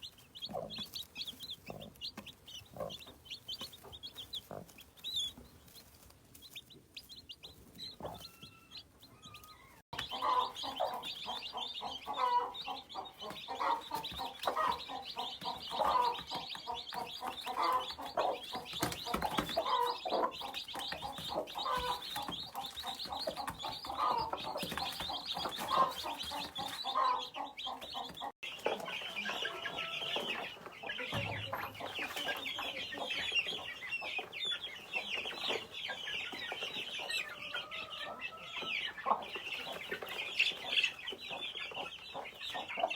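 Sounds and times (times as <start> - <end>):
chicks peeping: 0.0 - 42.9
hens clucking: 0.0 - 42.9.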